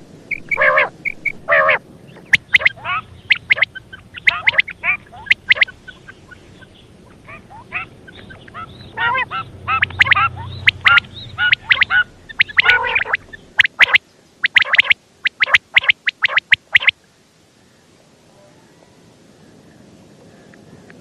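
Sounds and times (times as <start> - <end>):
quail calling: 0.0 - 16.9.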